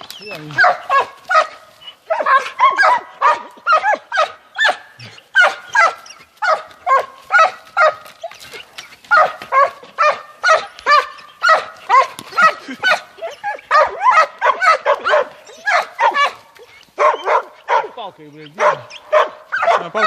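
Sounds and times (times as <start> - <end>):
dog barking rapidly: 0.4 - 8.1, 9.1 - 20.0.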